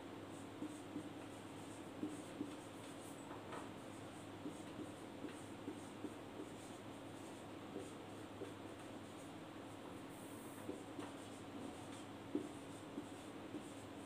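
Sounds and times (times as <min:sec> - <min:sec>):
marker writing on whiteboard: 0:00.3 - 0:09.3, 0:10.2 - 0:14.0.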